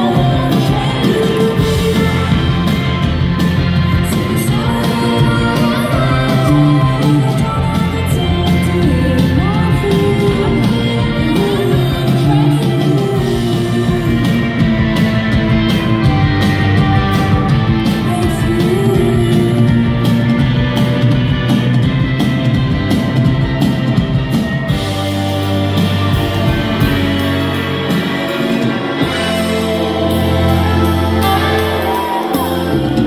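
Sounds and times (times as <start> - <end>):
bass: 0.0 - 33.0
drum kit: 0.0 - 33.0
electric guitars: 0.0 - 33.0.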